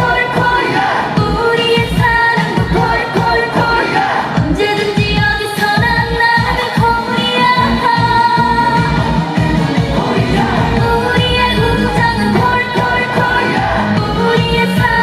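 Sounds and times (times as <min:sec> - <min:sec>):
trot music with singing: 0:00.0 - 0:15.0.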